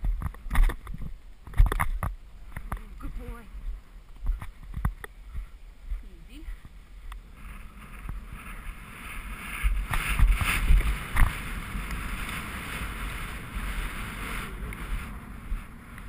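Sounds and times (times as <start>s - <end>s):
hoofbeats on grass: 0.0s - 16.0s
wind buffeting microphone: 0.0s - 16.0s.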